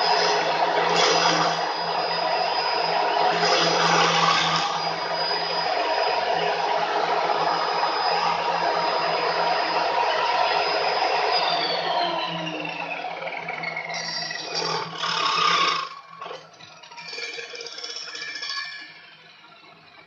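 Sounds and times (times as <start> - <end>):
circular saw motor whining: 0.0 - 20.0.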